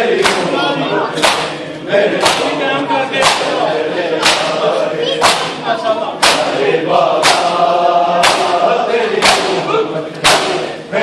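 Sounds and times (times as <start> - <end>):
crowd beating chests in unison: 0.0 - 11.0
group of men chanting: 0.0 - 11.0.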